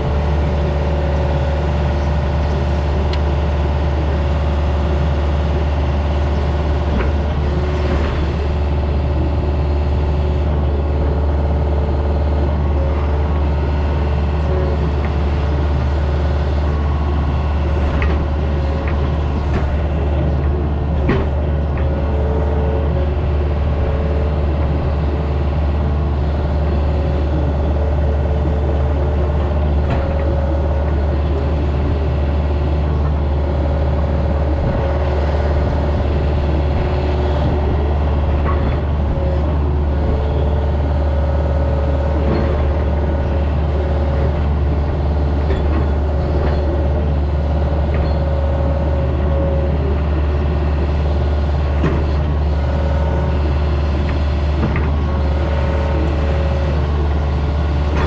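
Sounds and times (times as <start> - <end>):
construction machine engine running: 0.0 - 58.0.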